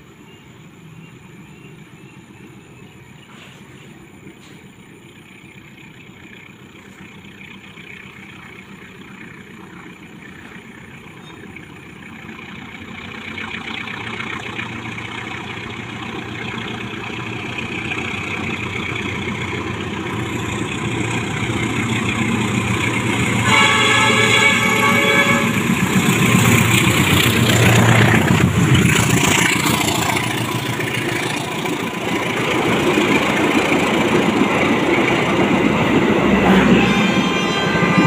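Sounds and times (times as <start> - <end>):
diesel locomotive approaching: 0.0 - 38.0.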